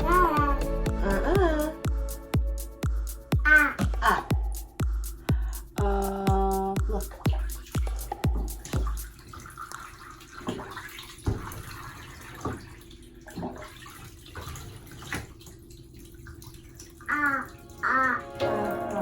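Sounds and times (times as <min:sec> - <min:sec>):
bath water splashing: 0:00.0 - 0:19.0.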